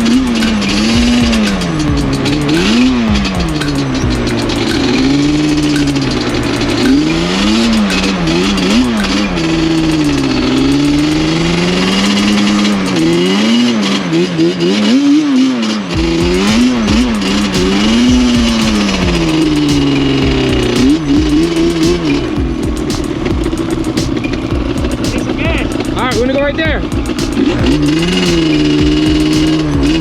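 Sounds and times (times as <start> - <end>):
quad engine revving: 0.0 - 30.0.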